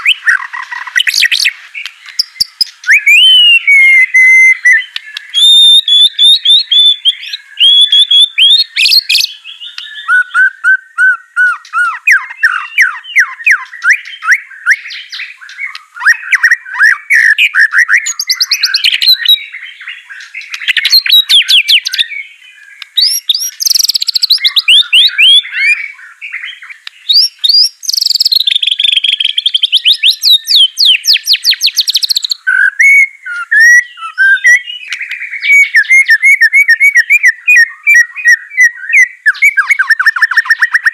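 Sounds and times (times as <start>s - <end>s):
bird singing trills and whistles: 0.0s - 40.9s.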